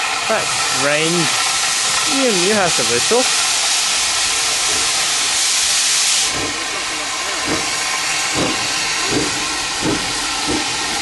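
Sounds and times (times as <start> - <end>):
steam exhaust chuffs: 0.0 - 11.0
steam hissing: 0.0 - 11.0.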